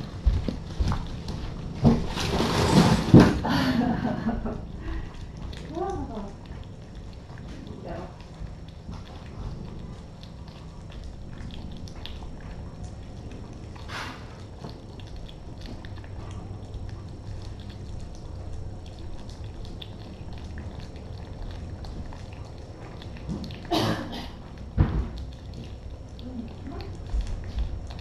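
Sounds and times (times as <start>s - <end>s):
cats chewing and lapping: 0.0s - 28.0s
low hum: 0.0s - 28.0s.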